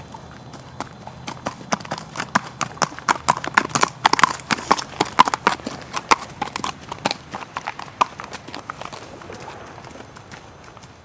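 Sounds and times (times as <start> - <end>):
horse hooves on paved road: 0.0 - 11.0.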